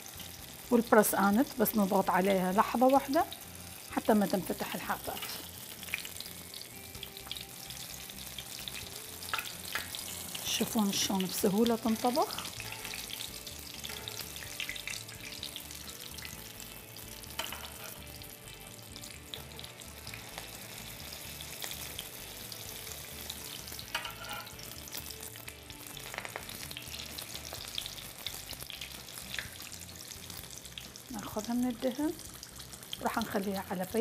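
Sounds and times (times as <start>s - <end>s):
pastry deep-frying in oil: 0.0s - 34.0s.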